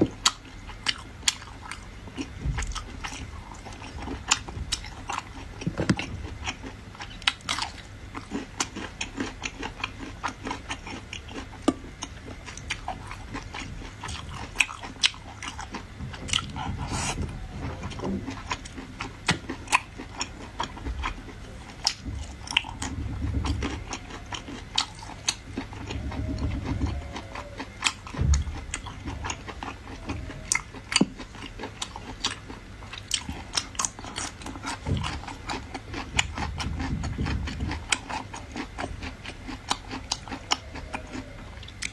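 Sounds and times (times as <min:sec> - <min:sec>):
person chewing sea snails: 0:00.0 - 0:41.9.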